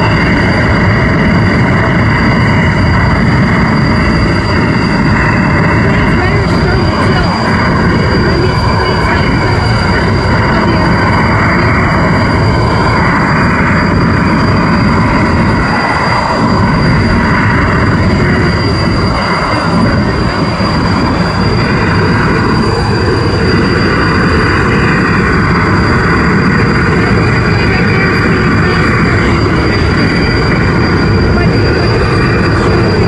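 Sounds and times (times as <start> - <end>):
helicopter rumble: 0.0 - 33.0
high whine: 0.0 - 33.0.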